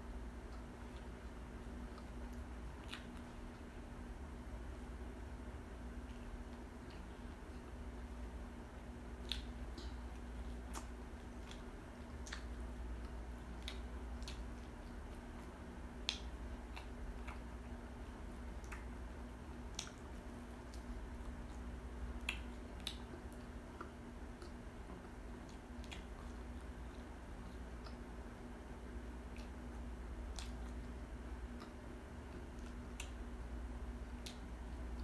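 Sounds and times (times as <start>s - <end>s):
crunchy chewing and lip smacking: 0.0s - 35.0s
low steady hum: 0.0s - 35.0s.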